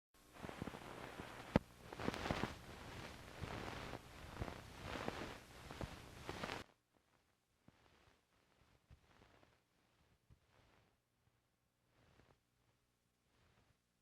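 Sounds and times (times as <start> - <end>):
film surface hiss and crackle: 0.2 - 14.0.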